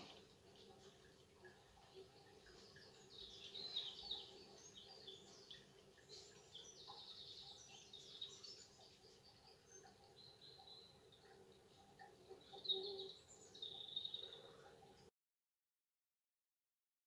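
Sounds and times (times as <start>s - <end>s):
songbirds chirping and trilling: 0.0s - 15.1s.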